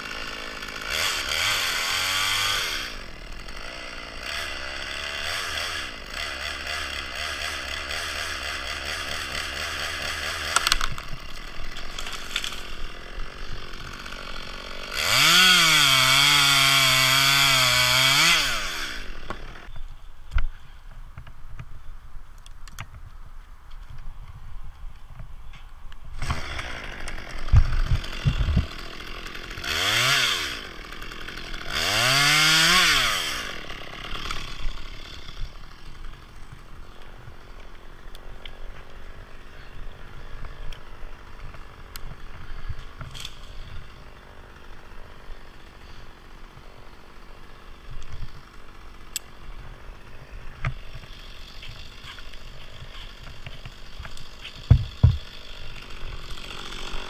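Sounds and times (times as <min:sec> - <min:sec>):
chainsaw revving and idling: 0:00.0 - 0:19.8, 0:26.2 - 0:57.0.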